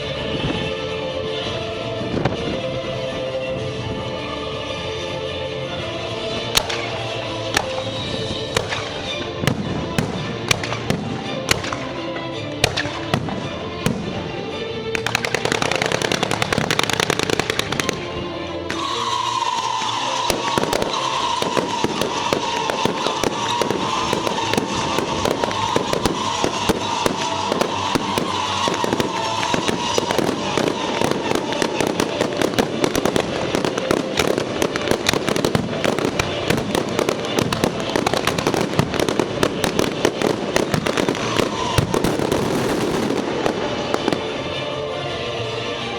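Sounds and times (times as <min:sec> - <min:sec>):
music: 0:00.0 - 0:45.9
fireworks bangs and crackling: 0:06.3 - 0:45.2.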